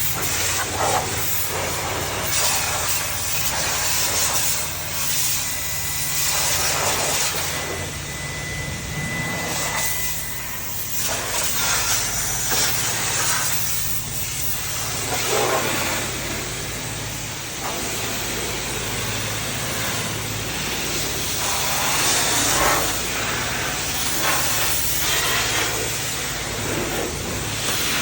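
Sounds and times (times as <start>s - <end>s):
pressure washer spraying water: 0.0s - 8.2s, 8.9s - 28.0s.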